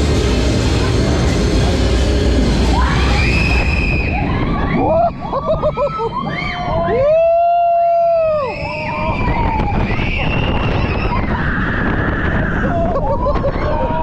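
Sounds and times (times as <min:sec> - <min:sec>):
roller coaster train rumble: 0:00.0 - 0:14.0
riders screaming and whooping: 0:02.7 - 0:14.0.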